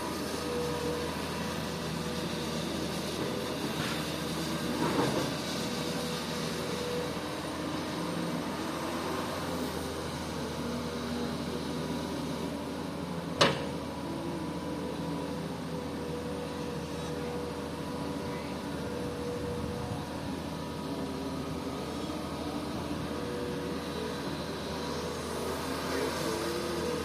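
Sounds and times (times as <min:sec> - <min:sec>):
excavator diesel engine droning: 0:00.0 - 0:27.0.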